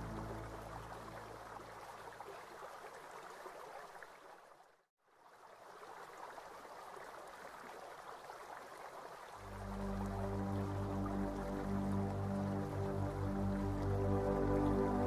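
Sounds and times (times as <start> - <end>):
running water: 0.0 - 15.0.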